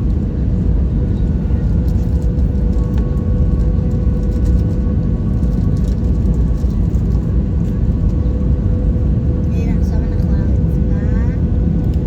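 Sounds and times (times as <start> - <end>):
airliner cabin rumble: 0.0 - 12.0
jet engine hum: 0.0 - 12.0.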